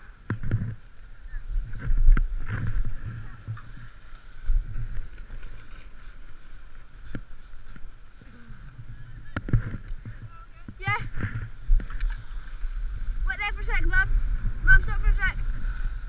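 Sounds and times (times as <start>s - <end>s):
wind buffeting microphone: 0.0s - 16.0s
skis scraping on snow: 0.6s - 16.0s.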